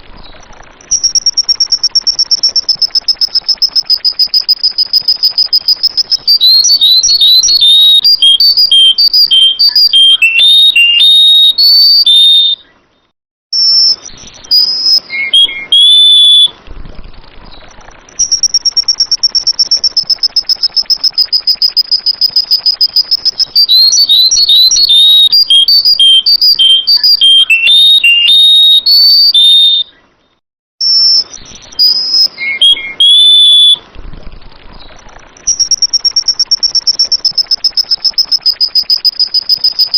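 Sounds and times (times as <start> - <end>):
bulbul whistled song: 0.0 - 16.6, 17.5 - 33.9, 34.8 - 39.9
high bird trill: 0.2 - 13.0, 13.6 - 16.6, 17.5 - 33.9, 34.8 - 39.9.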